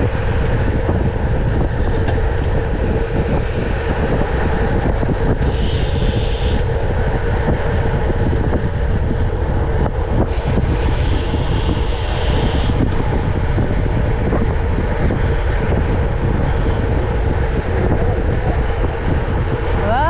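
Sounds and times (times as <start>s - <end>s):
bicycle ride rumble: 0.0s - 20.0s
wind on microphone: 0.0s - 20.0s.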